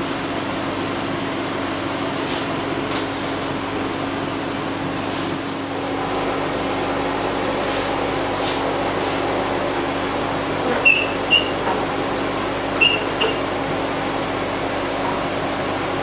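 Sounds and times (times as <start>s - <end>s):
workshop machine humming: 0.0s - 16.0s.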